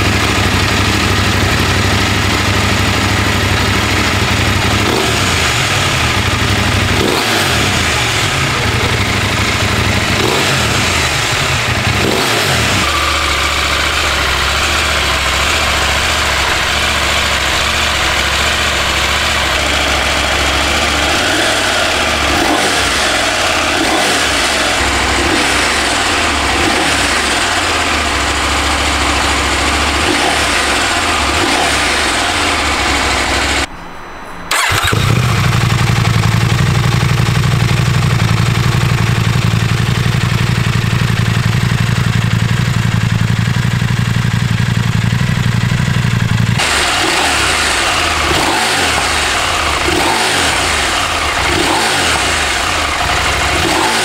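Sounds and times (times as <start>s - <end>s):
motorcycle engine idling with blips: 0.0s - 54.0s.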